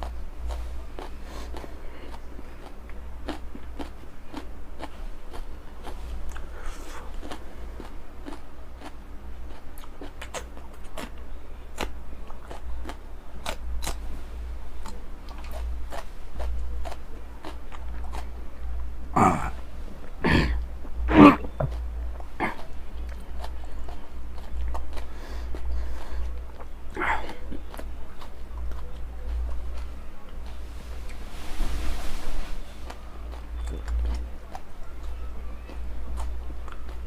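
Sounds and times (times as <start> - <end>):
chewing crunches: 0.0 - 14.0, 14.8 - 30.6, 33.2 - 37.0
steady low hum: 0.0 - 37.0.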